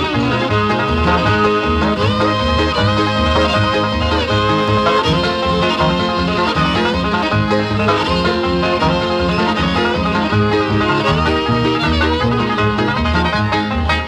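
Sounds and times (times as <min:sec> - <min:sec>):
upbeat bluegrass instrumental: 0:00.0 - 0:14.0.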